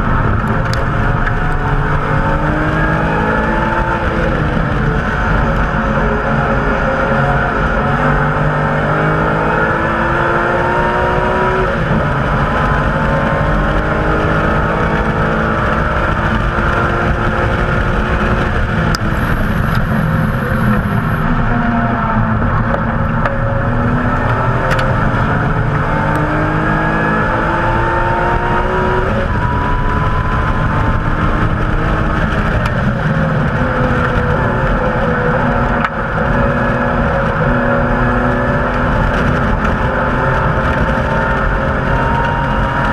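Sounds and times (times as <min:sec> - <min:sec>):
car engine accelerating and shifting: 0:00.0 - 0:42.9
road and wind noise: 0:00.0 - 0:42.9.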